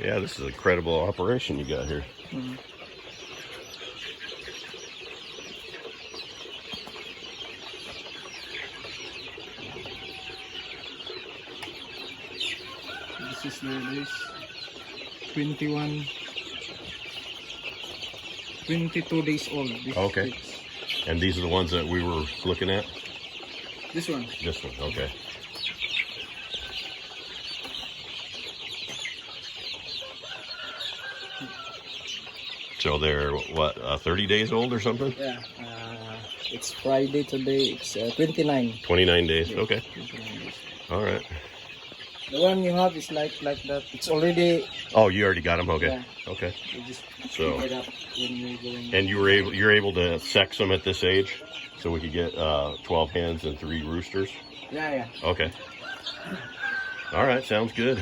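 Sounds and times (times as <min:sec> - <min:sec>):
young chickens peeping and clucking: 0:00.0 - 0:58.0.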